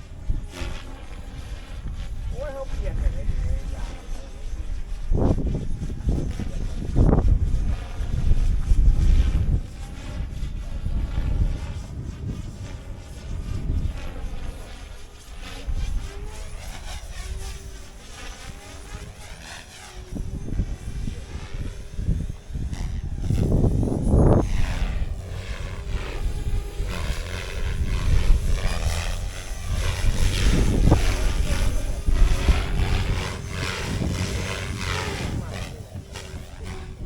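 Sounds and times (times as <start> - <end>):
helicopter rotors: 0.0 - 37.0
wind buffeting microphone: 0.0 - 37.0.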